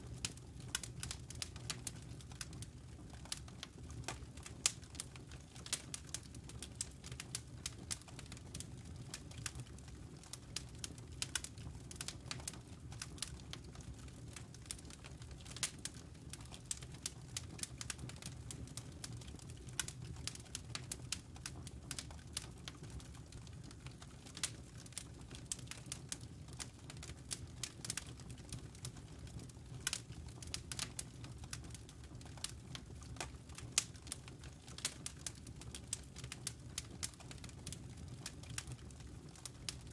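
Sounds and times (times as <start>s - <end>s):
campfire crackling and popping: 0.0s - 39.9s
low rumble of fire: 0.0s - 39.9s.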